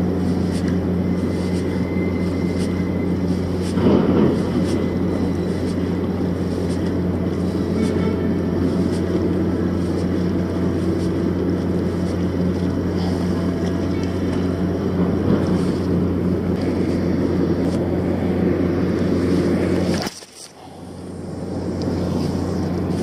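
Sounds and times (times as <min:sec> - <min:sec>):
constant rushing noise: 0:00.0 - 0:23.0
low mechanical drone: 0:00.0 - 0:23.0.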